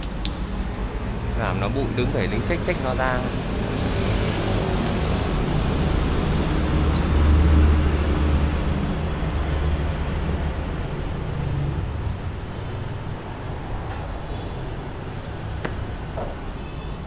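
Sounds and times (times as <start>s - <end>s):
steady traffic noise: 0.0s - 17.0s.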